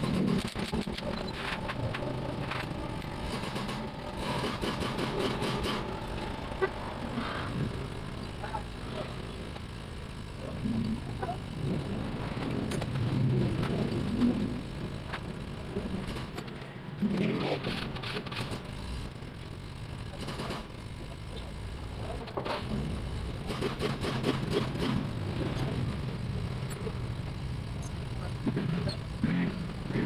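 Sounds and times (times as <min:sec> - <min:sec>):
motor traffic: 0:00.0 - 0:30.0.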